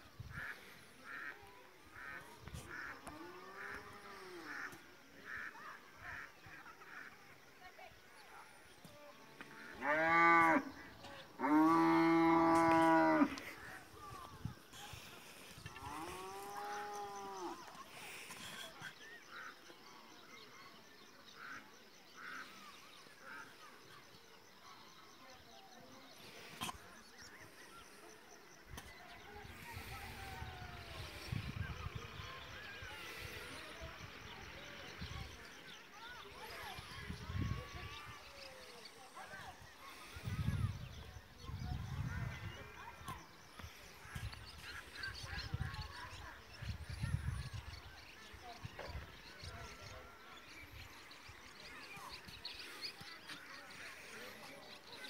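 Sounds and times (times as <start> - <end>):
birds chirping: 0.2 - 55.0.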